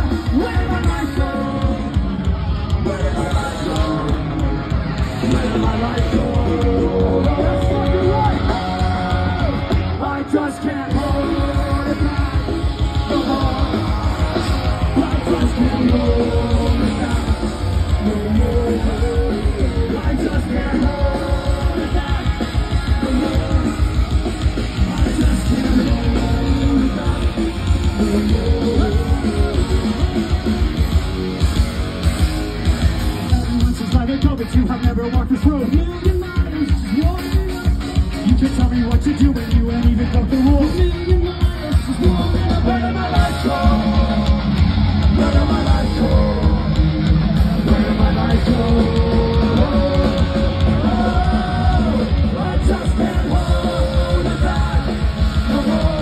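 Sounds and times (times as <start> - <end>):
live punk rock band: 0.0 - 56.0.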